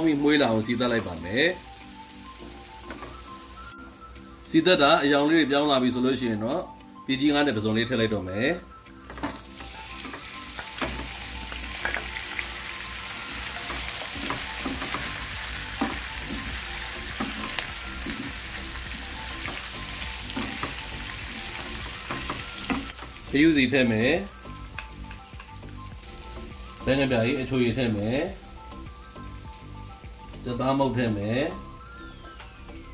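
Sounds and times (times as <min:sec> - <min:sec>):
seafood sizzling in a pan: 0:00.0 - 0:04.6, 0:08.8 - 0:30.6.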